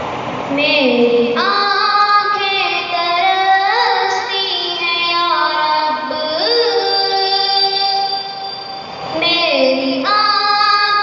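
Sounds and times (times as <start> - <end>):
boy singing: 0.5 - 8.4, 9.1 - 11.0.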